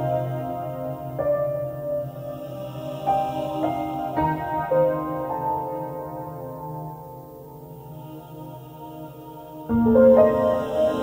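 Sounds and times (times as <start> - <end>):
soft sustained music chord: 0.0 - 11.0.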